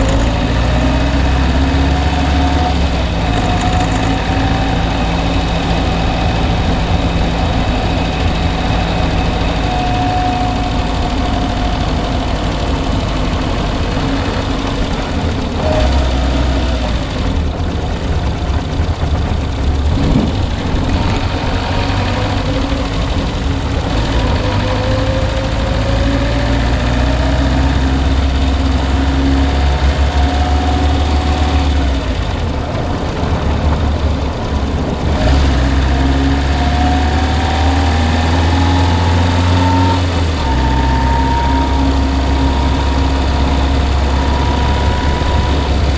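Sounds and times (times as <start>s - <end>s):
car engine idling: 0.0s - 45.9s
engine knocking: 0.0s - 45.9s.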